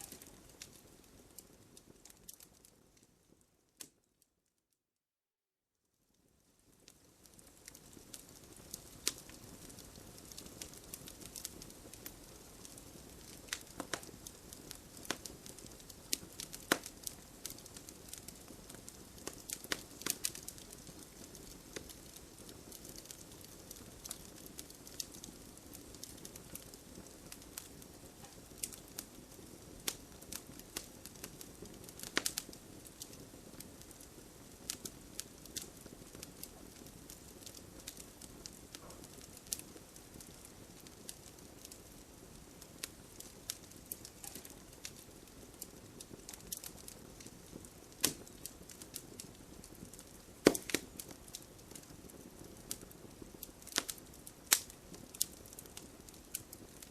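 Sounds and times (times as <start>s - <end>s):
fire crackling: 0.0s - 4.2s, 6.2s - 56.9s
soft steady hiss: 0.0s - 4.6s, 5.8s - 56.9s.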